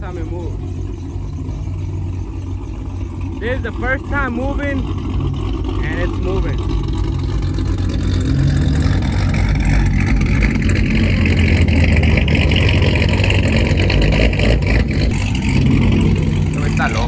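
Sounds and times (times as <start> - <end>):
low car engine note: 0.0 - 17.0.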